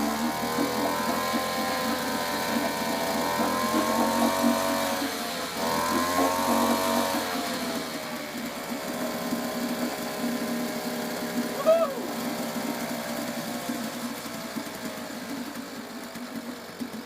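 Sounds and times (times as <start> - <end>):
outboard two-stroke engine running: 0.0 - 17.0.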